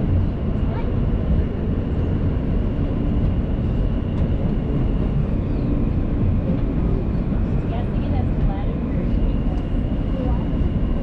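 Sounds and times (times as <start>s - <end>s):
low rumble of subway train: 0.0s - 11.0s.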